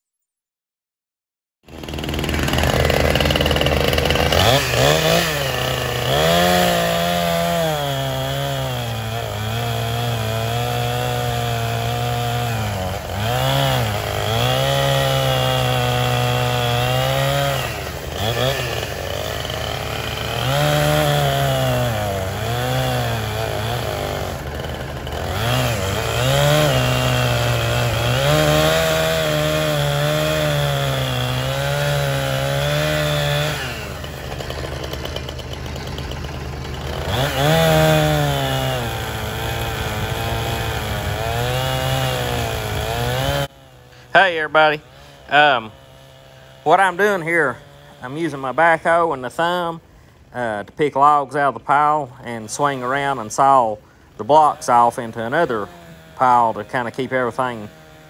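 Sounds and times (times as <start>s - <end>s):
chainsaw cutting through log: 1.7s - 58.0s.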